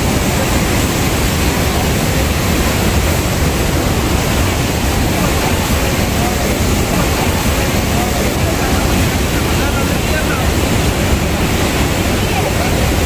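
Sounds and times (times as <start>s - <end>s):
waterfall pouring onto rocks: 0.0s - 13.0s.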